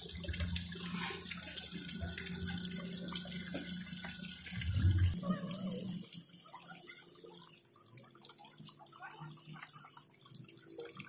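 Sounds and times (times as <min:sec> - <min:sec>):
water running from hose: 0:00.0 - 0:11.0.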